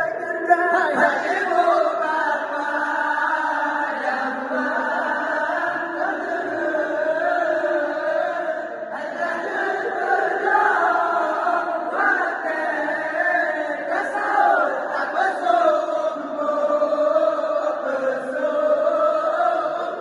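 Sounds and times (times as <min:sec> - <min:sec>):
voices chanting a melodic song: 0:00.0 - 0:20.0.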